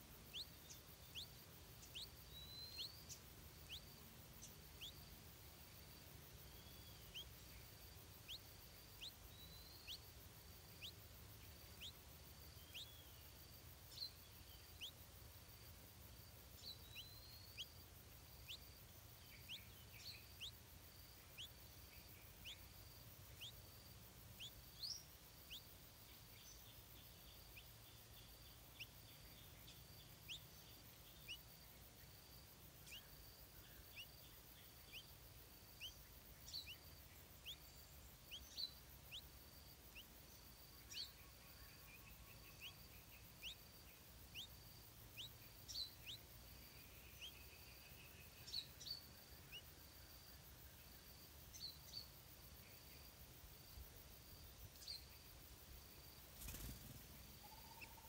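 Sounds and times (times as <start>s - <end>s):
faint bird chirps: 0.0s - 58.0s.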